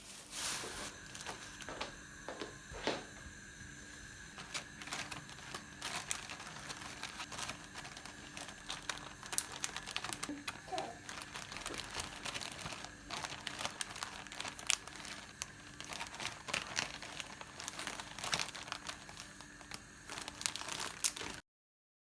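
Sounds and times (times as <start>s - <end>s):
plastic packaging crinkling: 0.0s - 1.9s, 3.9s - 21.4s.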